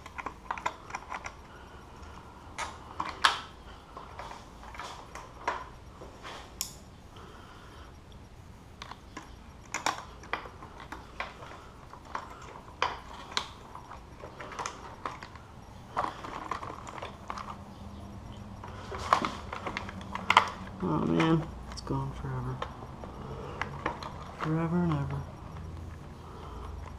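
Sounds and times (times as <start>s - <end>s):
hands clicking and knocking plastic parts: 0.0s - 5.8s, 8.7s - 26.9s.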